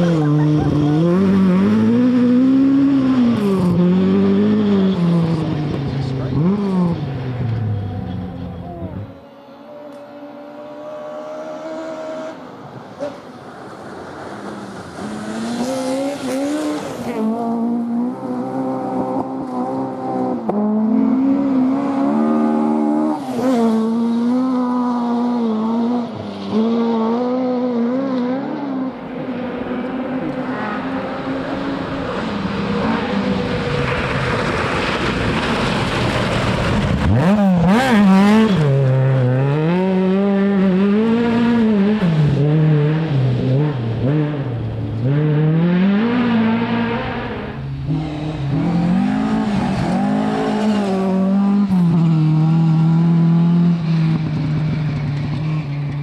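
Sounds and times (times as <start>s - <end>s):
rally car engine revving: 0.0s - 13.3s, 14.2s - 56.0s
car rushing past: 0.0s - 56.0s.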